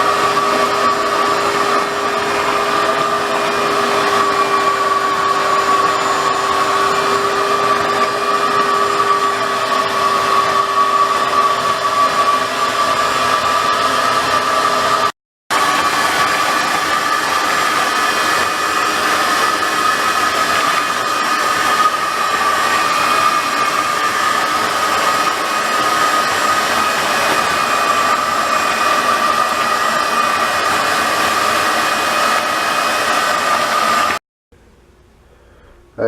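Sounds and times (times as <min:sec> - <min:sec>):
shop vac whining: 0:00.0 - 0:36.0.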